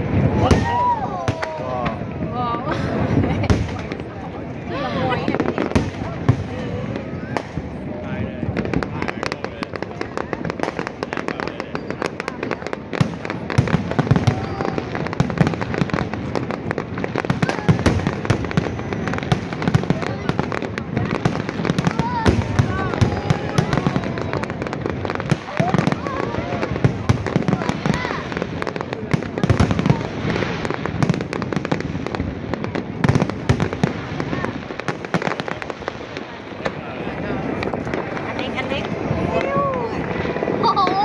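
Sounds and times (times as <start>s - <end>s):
fireworks bangs and crackling: 0.0s - 41.0s.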